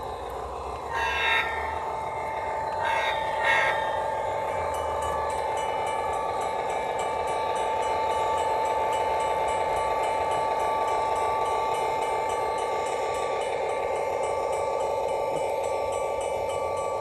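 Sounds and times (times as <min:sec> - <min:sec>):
crossing bell ringing: 0:00.0 - 0:17.0
model locomotive electric hum: 0:00.0 - 0:17.0.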